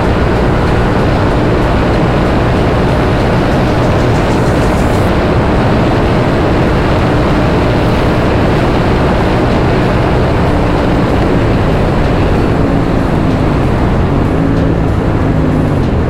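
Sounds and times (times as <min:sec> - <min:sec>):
motorcycle engine at speed: 0:00.0 - 0:16.0
wind blast on microphone: 0:00.0 - 0:16.0.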